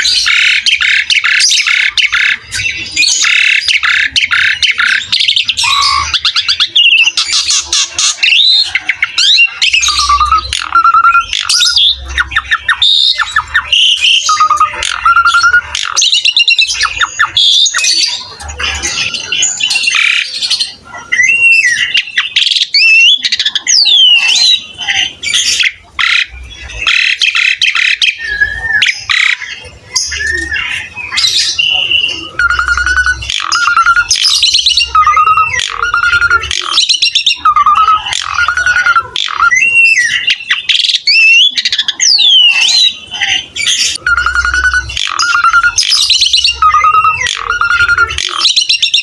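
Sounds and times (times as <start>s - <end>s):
starling chattering and whistling: 0.0s - 49.0s.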